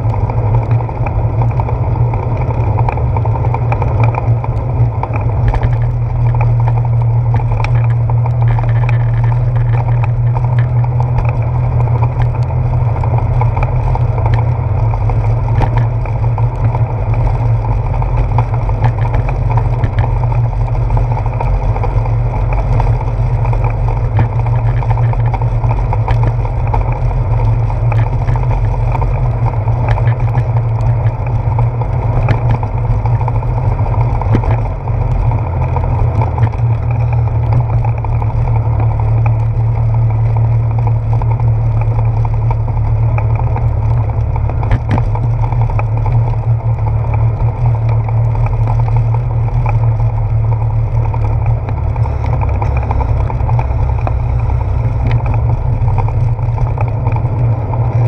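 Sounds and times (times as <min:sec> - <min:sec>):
bike rolling over wooden boardwalk: 0:00.0 - 0:58.0
wind rumble: 0:00.0 - 0:58.0.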